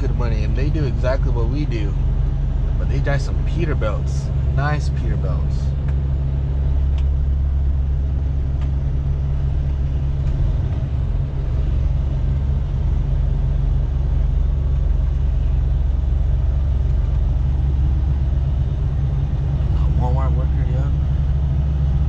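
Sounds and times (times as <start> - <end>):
diesel truck engine hum: 0.0 - 22.0.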